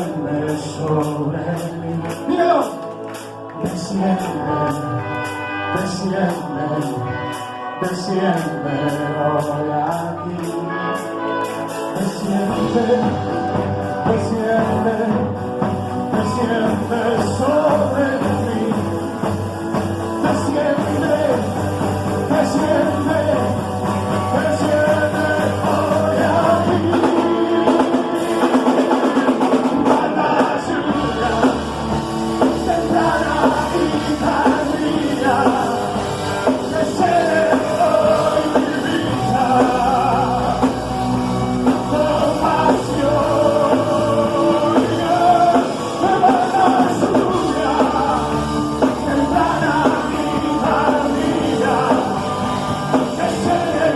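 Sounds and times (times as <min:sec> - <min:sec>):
worship band music with singing: 0:00.0 - 0:53.9.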